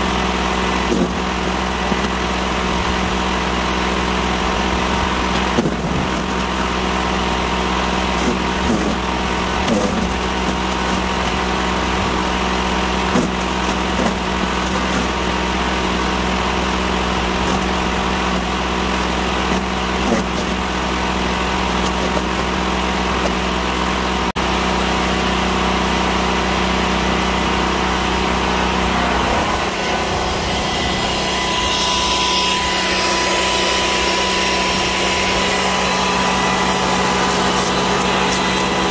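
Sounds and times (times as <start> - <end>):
electric wood chipper running: 0.0 - 38.9
generator running: 0.0 - 38.9.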